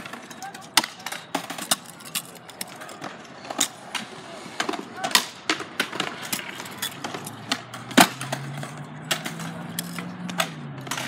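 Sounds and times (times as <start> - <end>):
scooter wheels rolling on concrete: 0.0 - 11.0.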